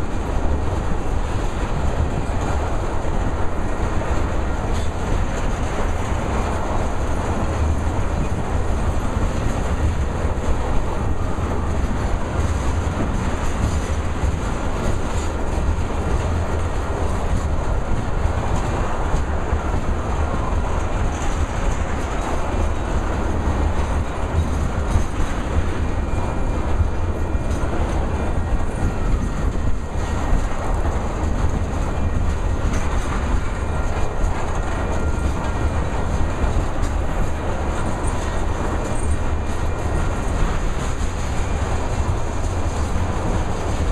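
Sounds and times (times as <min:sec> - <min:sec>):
freight train rumbling past: 0:00.0 - 0:43.9
wheels clacking over rail joints: 0:00.0 - 0:43.9.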